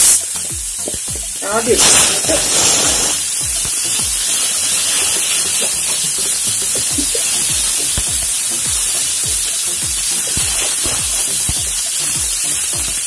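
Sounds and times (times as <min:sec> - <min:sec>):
background music: 0:00.0 - 0:13.0
garlic sizzling in hot oil: 0:00.0 - 0:13.0.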